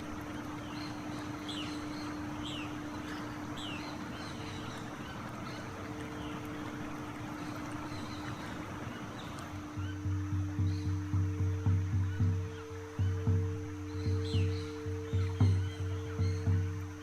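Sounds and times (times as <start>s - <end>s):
birds chirping: 0.0s - 17.0s
constant hiss: 0.0s - 17.0s
low hum: 0.0s - 17.0s.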